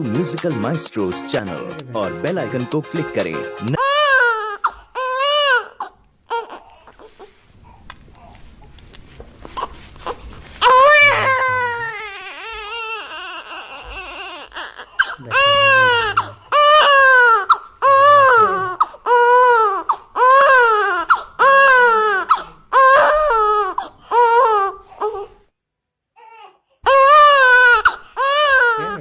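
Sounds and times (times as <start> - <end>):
newborn baby crying: 3.7 - 8.8, 9.4 - 25.4, 26.1 - 29.0.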